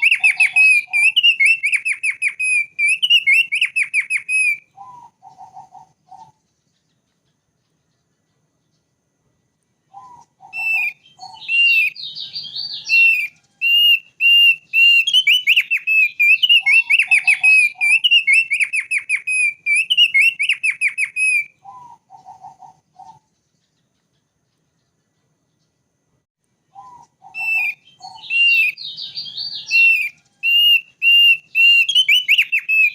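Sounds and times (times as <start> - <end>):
bird singing whistled trills: 0.0 - 8.9, 9.8 - 25.8, 26.7 - 32.9.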